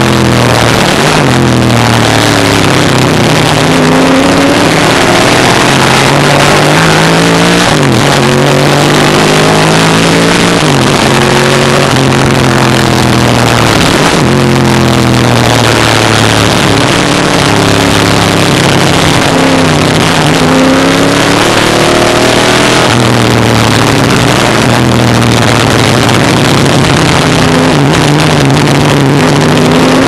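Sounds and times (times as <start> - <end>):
racing engine at full throttle: 0.0 - 30.0.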